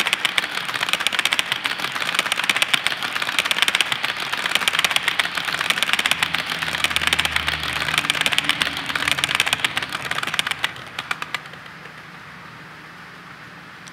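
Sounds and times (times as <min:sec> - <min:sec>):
model train wheels clicking: 0:00.0 - 0:12.5.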